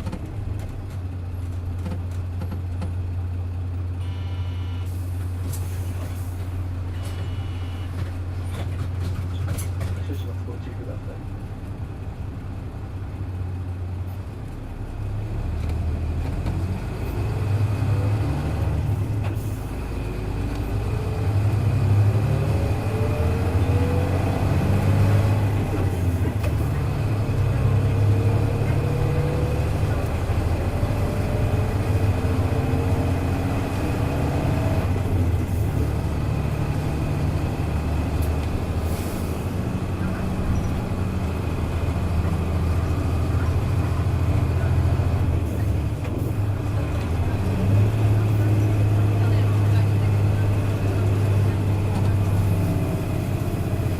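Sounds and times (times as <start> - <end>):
bus engine whining under load: 0.0 - 53.9.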